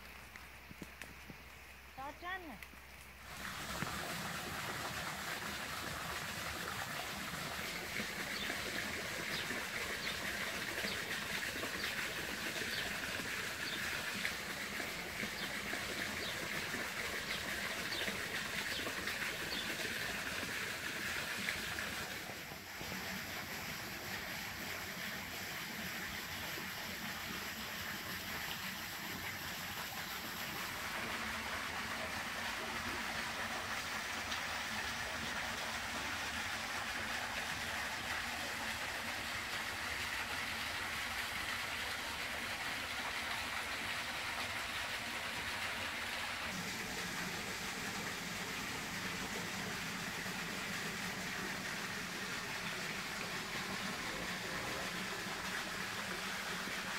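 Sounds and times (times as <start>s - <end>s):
fountain splashing water: 0.0s - 56.9s.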